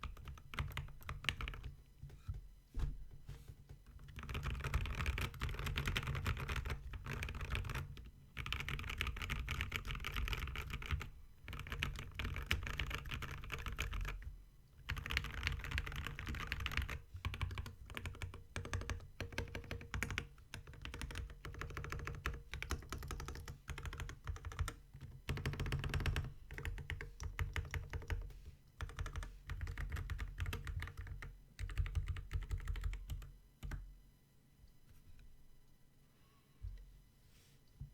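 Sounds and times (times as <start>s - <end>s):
mechanical keyboard typing: 0.0s - 1.7s, 4.0s - 33.8s.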